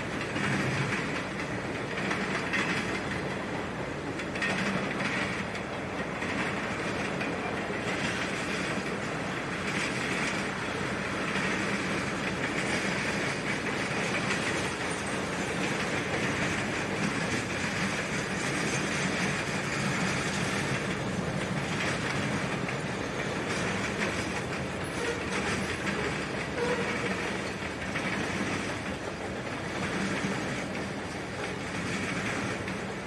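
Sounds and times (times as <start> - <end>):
train wheels clattering over rails: 0.0 - 33.0.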